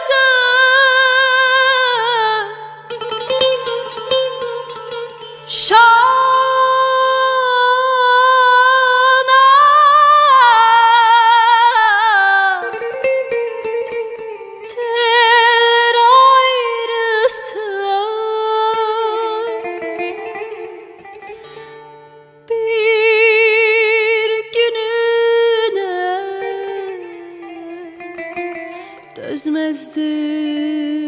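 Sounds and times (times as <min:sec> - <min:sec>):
woman singing wordless vibrato: 0:00.0 - 0:03.0, 0:05.4 - 0:13.2, 0:14.6 - 0:21.0, 0:22.5 - 0:31.0
plucked string accompaniment: 0:00.0 - 0:31.0.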